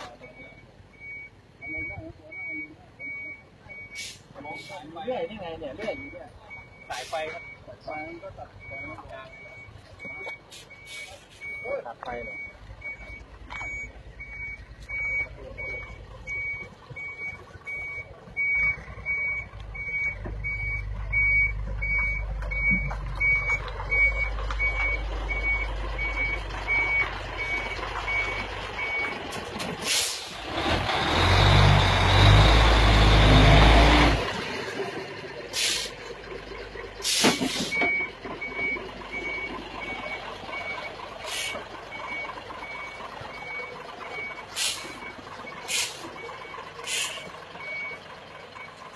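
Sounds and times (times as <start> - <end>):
diesel engine: 0.0 - 48.9
reversing beeper: 0.1 - 4.9, 5.7 - 29.2, 37.4 - 48.8.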